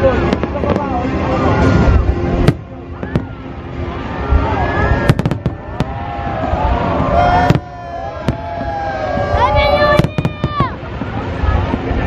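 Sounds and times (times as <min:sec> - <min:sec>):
crowd voices: 0:00.0 - 0:12.0
fireworks bangs: 0:00.1 - 0:03.5, 0:04.3 - 0:12.0.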